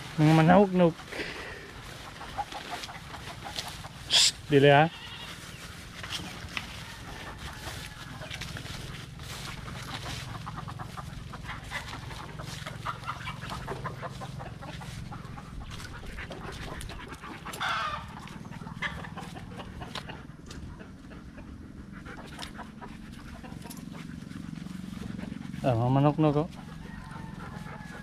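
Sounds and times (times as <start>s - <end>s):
chickens clucking: 0.0s - 28.0s
rustling through grass and leaves: 0.0s - 28.0s.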